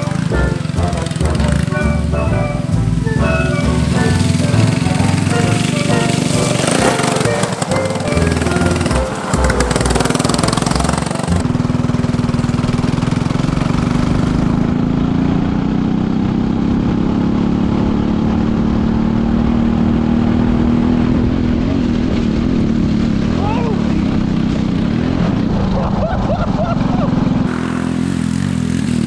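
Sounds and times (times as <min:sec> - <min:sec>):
kart engine running under load: 0:00.0 - 0:29.0.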